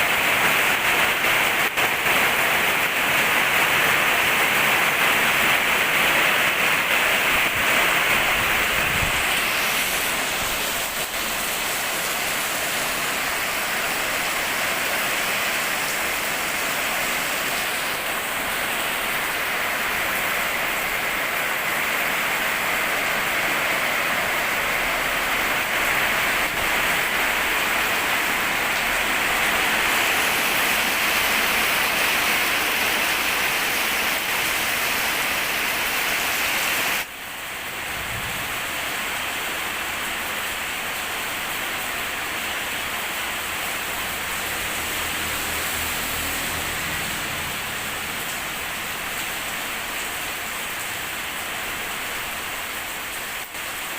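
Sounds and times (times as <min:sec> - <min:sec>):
rain falling steadily: 0:00.0 - 0:53.9.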